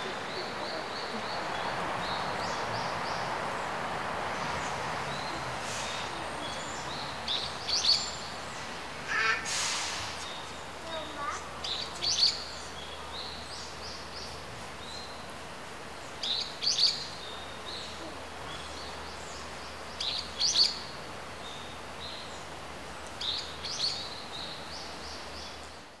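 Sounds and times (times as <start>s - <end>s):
faint hiss: 0.0s - 26.0s
songbirds singing: 0.0s - 26.0s.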